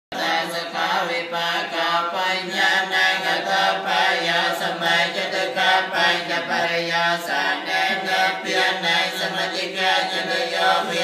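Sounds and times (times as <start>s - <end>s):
low reciting tone: 0.1s - 11.0s
monks chanting in unison: 0.1s - 11.0s.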